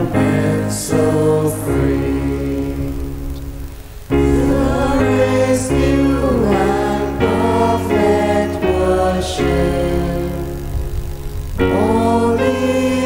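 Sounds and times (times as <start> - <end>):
sustained keyboard chords: 0.0 - 13.0
voices singing a hymn: 0.0 - 13.0.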